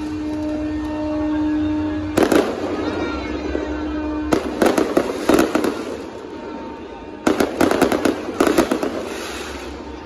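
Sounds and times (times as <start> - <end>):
low boat horn: 0.0 - 9.0
fireworks bangs: 0.0 - 10.0
fireworks crackling: 0.0 - 10.0.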